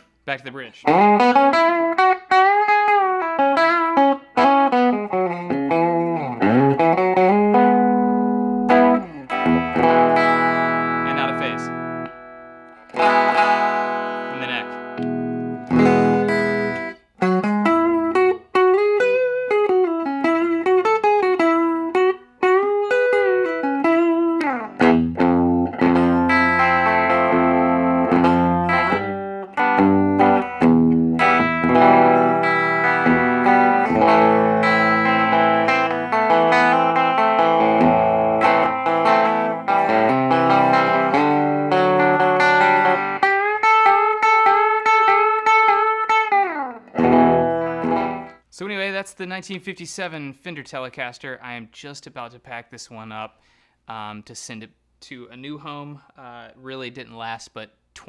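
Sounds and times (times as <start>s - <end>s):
electric guitar playing: 0.8s - 48.5s.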